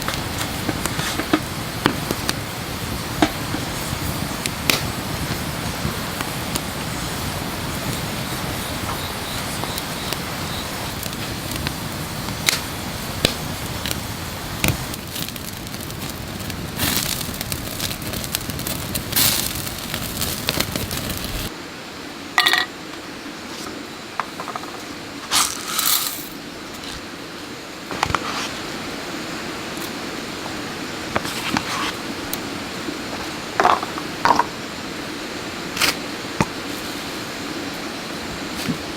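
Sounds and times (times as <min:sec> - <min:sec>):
wood fire crackling and hissing: 0:00.0 - 0:38.9.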